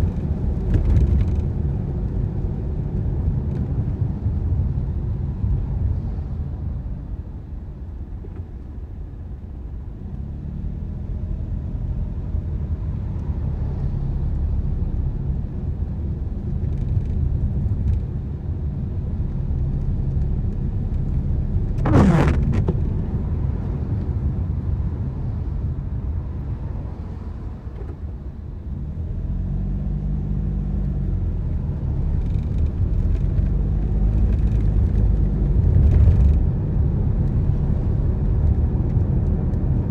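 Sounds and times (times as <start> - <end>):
car driving on wet road: 0.0 - 6.2, 10.1 - 39.9.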